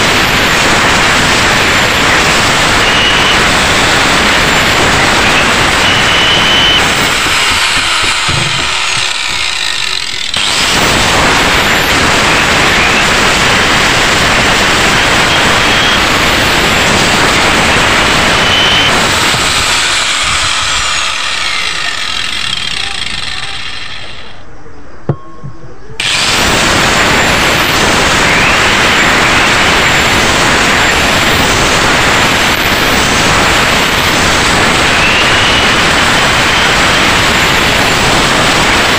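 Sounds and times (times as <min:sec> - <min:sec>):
angle grinder grinding metal: 0:00.0 - 0:24.4, 0:26.0 - 0:38.9.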